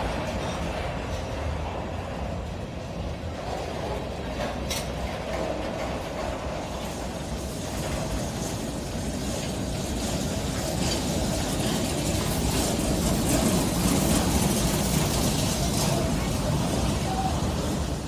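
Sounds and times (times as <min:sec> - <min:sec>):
rail cars clattering: 0:00.0 - 0:18.0
train wheels rumbling on rails: 0:00.0 - 0:18.0.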